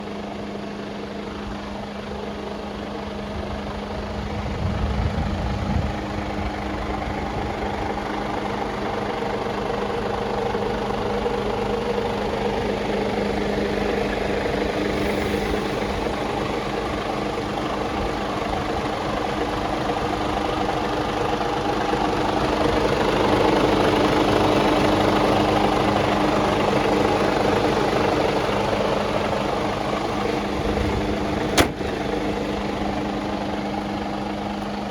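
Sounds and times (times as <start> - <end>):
diesel truck idling: 0.0 - 34.9.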